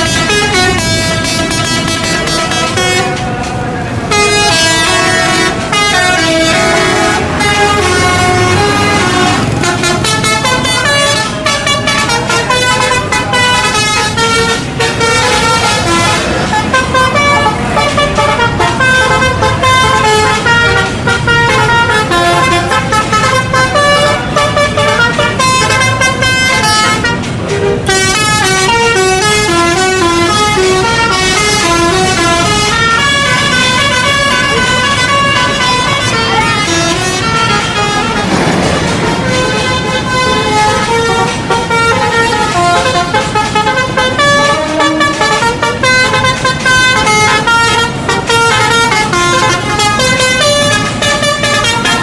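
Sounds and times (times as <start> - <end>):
musical air horn melodies: 0.0 - 52.0.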